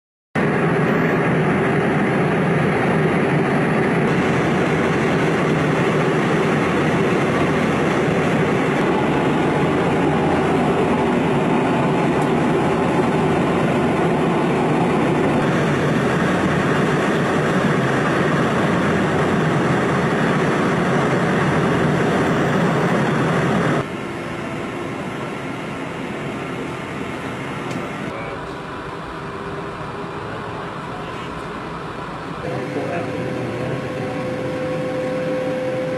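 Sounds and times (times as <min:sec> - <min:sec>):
jet engine rushing: 0:00.4 - 0:35.9.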